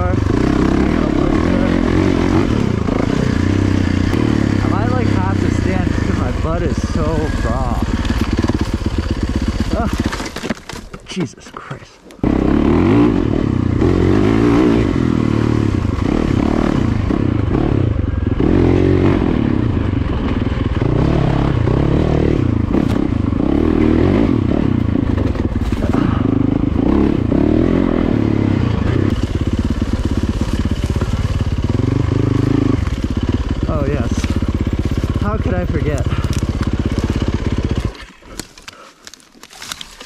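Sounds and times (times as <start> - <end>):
dirt bike engine revving: 0.0 - 10.3, 12.2 - 38.2.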